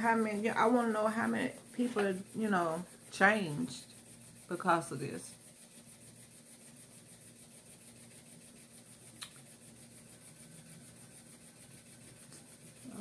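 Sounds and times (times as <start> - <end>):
low steady hum with hiss: 0.0 - 13.0.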